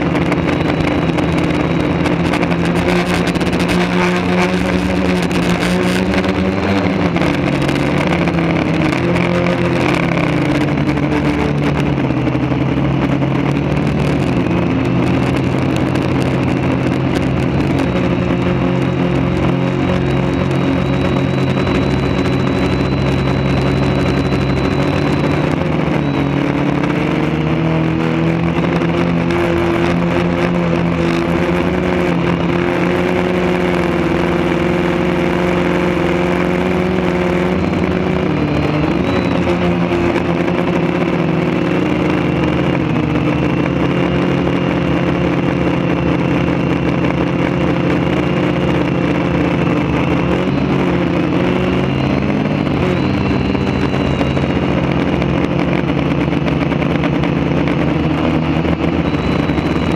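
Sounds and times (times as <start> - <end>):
quadcopter motors and propellers: 0.0 - 59.9.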